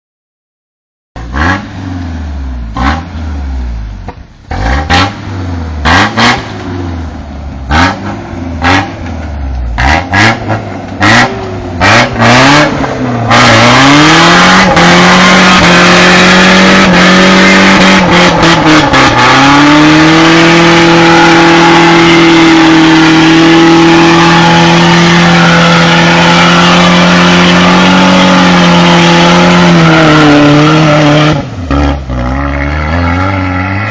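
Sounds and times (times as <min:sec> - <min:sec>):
truck engine revving: 0:01.2 - 0:33.9.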